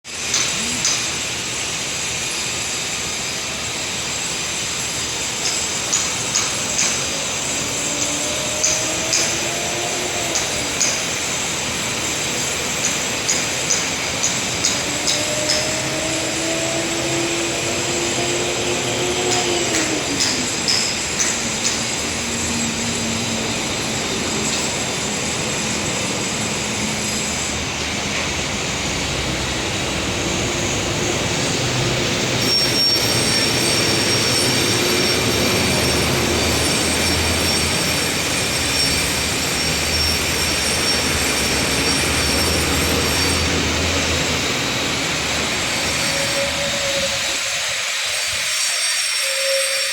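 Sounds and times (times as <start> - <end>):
loud steady mechanical noise: 0.1 - 49.9
squealing tones sliding down: 5.2 - 27.8, 28.6 - 49.9.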